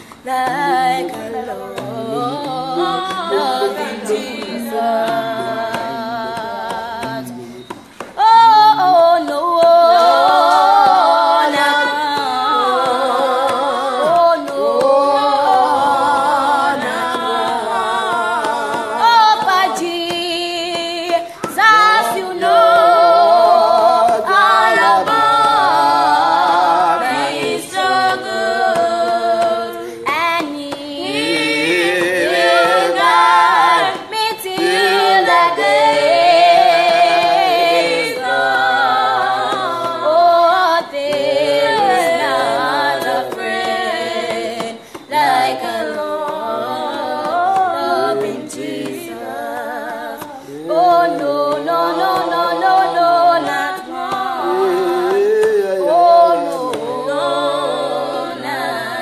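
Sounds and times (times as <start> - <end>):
voices singing along: 0.0 - 59.0
woman singing: 0.0 - 59.0.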